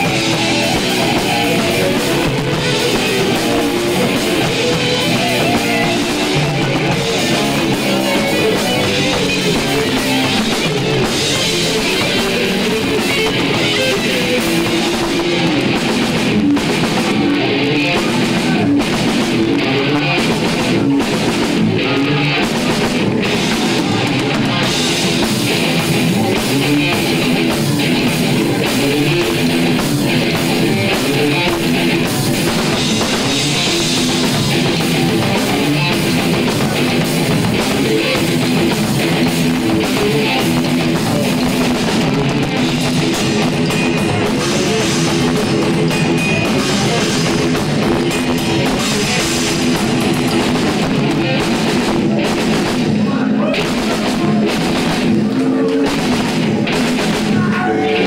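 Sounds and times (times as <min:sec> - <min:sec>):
distorted electric guitars riffing: 0:00.0 - 0:58.0
drum kit: 0:00.0 - 0:58.0.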